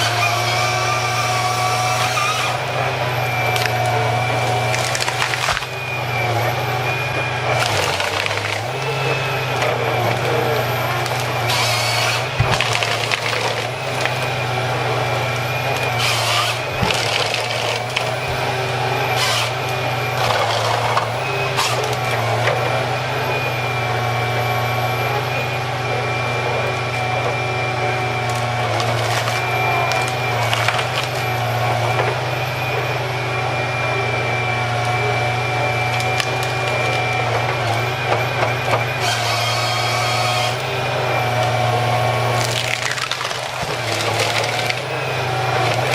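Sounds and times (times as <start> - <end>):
heavy machine humming and whining: 0.0 - 45.9.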